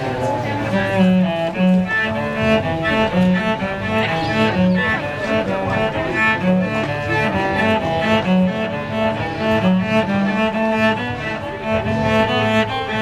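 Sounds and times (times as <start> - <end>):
solo cello melody: 0.0 - 13.0.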